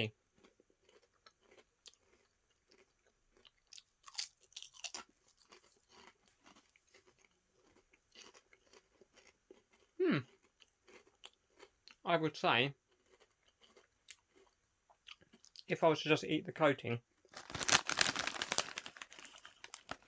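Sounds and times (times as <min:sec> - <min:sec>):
crisps being chewed: 0:00.4 - 0:12.0, 0:12.8 - 0:15.7, 0:17.2 - 0:20.0.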